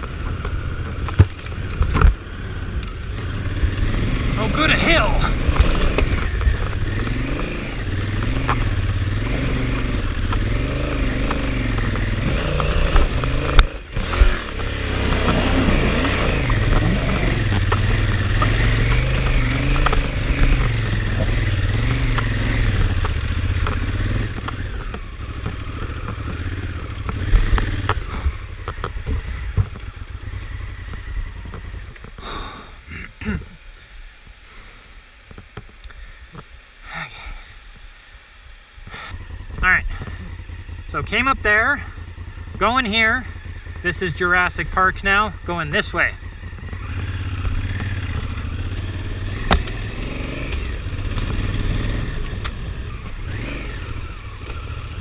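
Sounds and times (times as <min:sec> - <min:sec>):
motorcycle engine revving: 0:00.0 - 0:33.5, 0:38.8 - 0:55.0.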